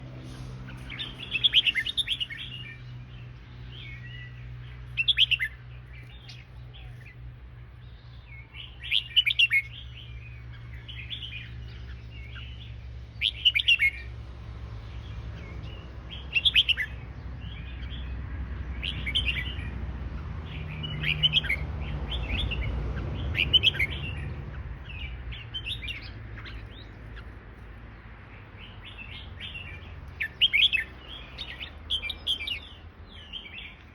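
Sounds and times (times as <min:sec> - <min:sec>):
bird singing bright phrases: 0:00.0 - 0:14.2, 0:14.8 - 0:33.9.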